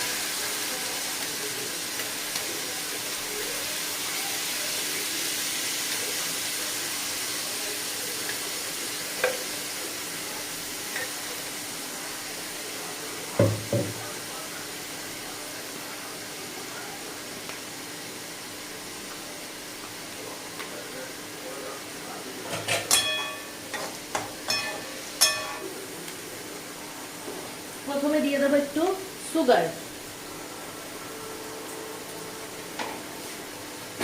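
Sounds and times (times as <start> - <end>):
meat sizzling in oil: 0.0 - 34.0.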